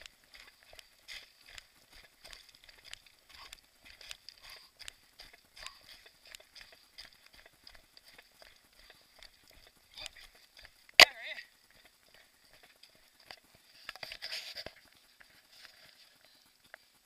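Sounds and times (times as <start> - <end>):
footsteps crunching on loose rock: 0.0 - 16.9.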